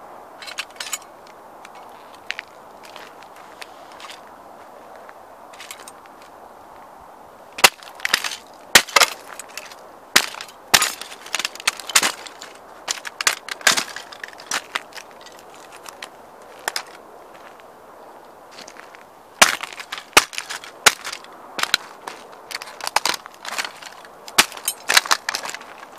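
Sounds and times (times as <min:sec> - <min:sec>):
sneakers stomping on gravel: 0:01.7 - 0:04.7, 0:05.6 - 0:06.3, 0:07.6 - 0:17.7, 0:18.5 - 0:25.9.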